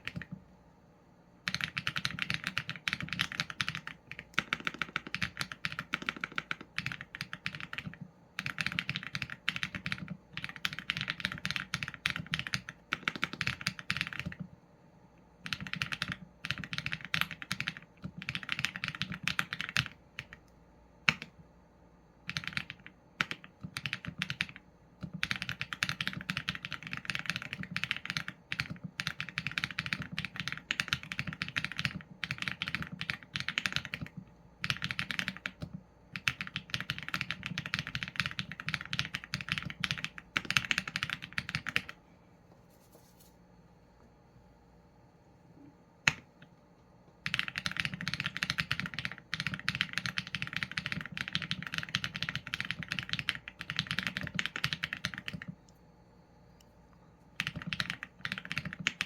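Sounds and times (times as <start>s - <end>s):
mechanical keyboard typing: 0.0s - 0.4s, 1.4s - 14.5s, 15.4s - 21.4s, 22.2s - 42.0s, 47.2s - 55.6s, 57.4s - 59.0s.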